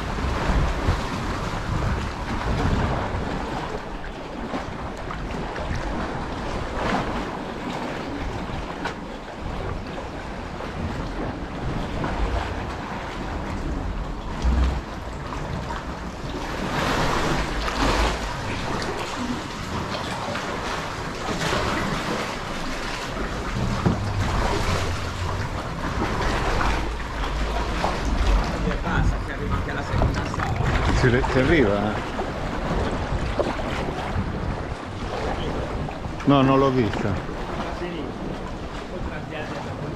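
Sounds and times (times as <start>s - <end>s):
paddle splashes: 0.0s - 39.9s
water lapping and splashing: 0.0s - 39.9s
wind buffeting microphone: 0.0s - 39.9s.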